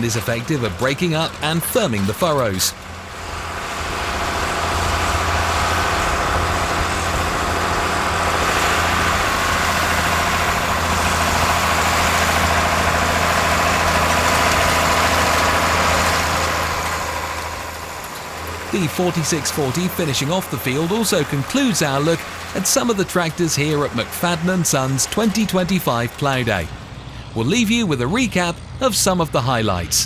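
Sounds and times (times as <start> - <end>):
diesel tractor engine under load: 0.0 - 30.0.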